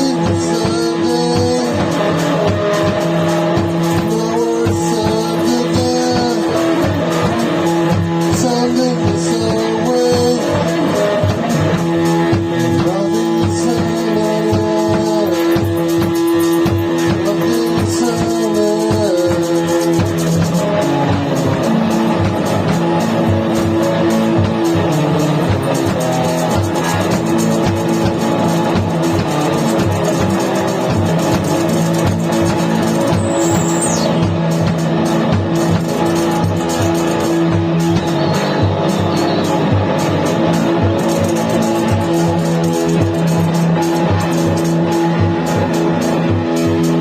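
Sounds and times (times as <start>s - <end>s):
dense steady drum beat: 0.0s - 47.0s
electric guitar lines: 0.0s - 47.0s
held drone note: 0.0s - 47.0s.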